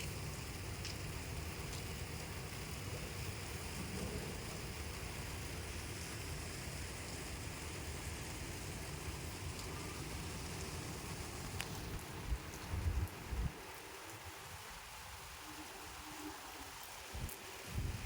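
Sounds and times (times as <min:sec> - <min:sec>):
faint drip-like ticks: 0:00.0 - 0:18.0
steady rain falling: 0:00.0 - 0:18.0.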